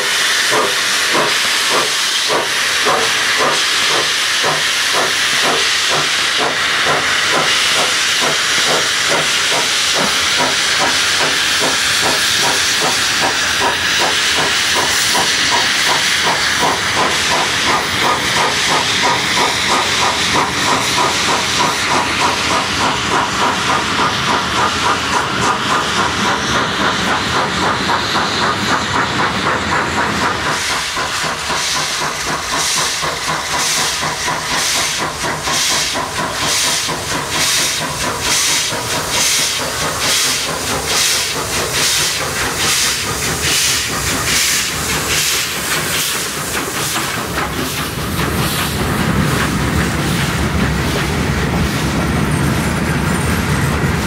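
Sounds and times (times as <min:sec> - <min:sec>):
locomotive exhaust beat: 0:00.0 - 0:54.0
steam hissing: 0:00.0 - 0:54.0.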